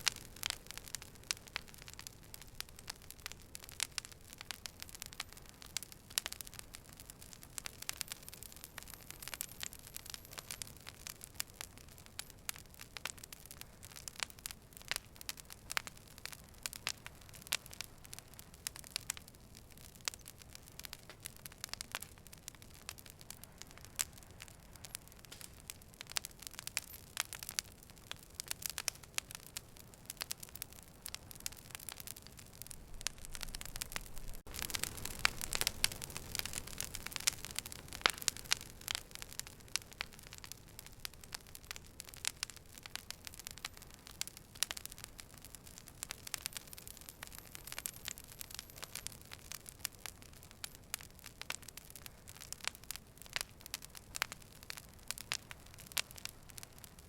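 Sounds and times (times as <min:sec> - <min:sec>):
fire crackling: 0:00.0 - 0:57.0.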